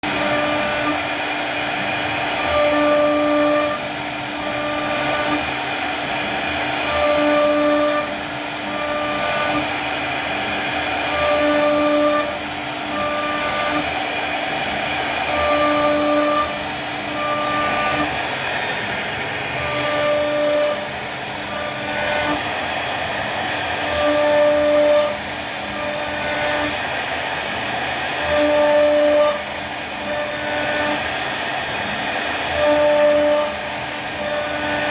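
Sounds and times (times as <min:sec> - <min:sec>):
pitched hum: 0:00.0 - 0:34.9
router motor cutting wood: 0:00.0 - 0:34.9.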